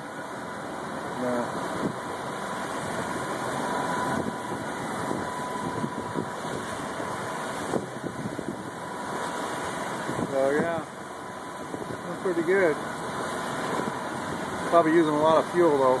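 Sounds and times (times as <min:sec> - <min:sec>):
boat diesel engine running: 0:00.0 - 0:16.0
water rushing past hull: 0:00.0 - 0:16.0.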